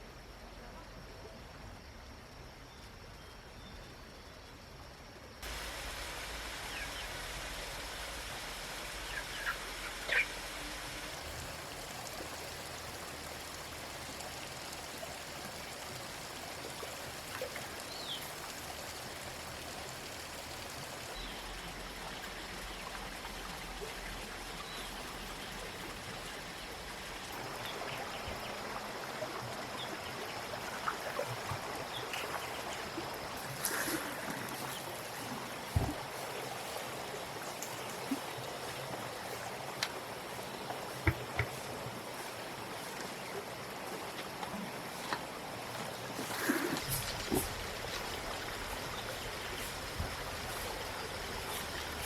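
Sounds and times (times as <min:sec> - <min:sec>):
flowing water rushing: 0:05.4 - 0:52.0.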